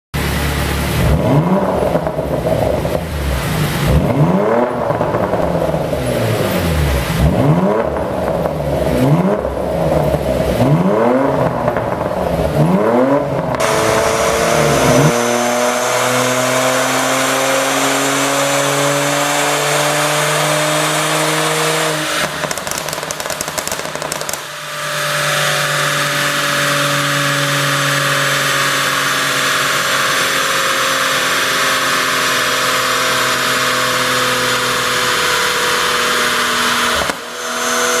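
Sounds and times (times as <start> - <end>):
engine revving: 0.2 - 38.0
engine running under load: 0.2 - 38.0
exhaust popping and crackling: 0.8 - 19.4, 20.0 - 38.0.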